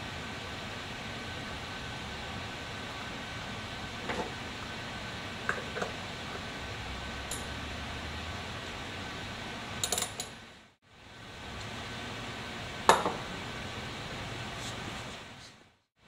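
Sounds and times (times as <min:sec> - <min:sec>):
steady hum: 0:00.0 - 0:15.2.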